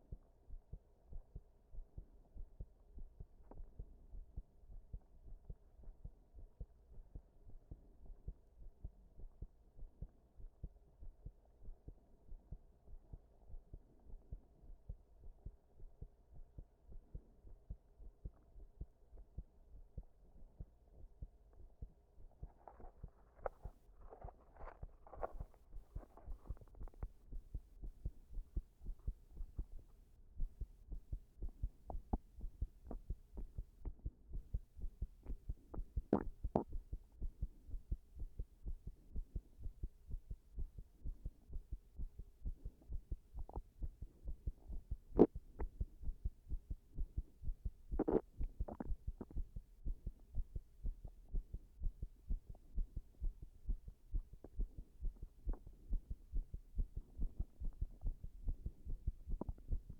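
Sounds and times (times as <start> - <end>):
heartbeat lub-dub pulses: 0.0 - 59.9.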